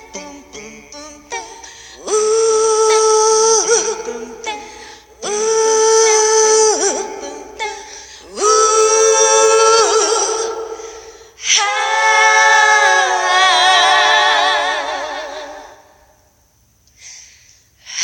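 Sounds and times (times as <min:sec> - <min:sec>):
voices singing in harmony: 0:00.0 - 0:16.3.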